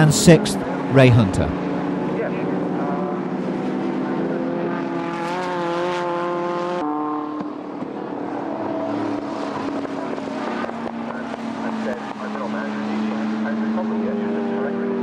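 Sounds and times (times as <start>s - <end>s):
racing car engines running: 0.0s - 15.0s.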